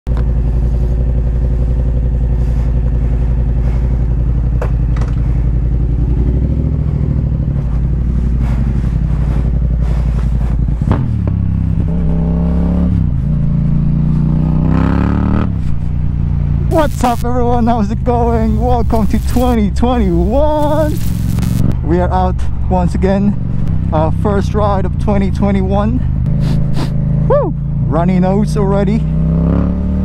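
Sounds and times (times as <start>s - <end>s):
motorcycle engine idling and revving: 0.1s - 30.0s.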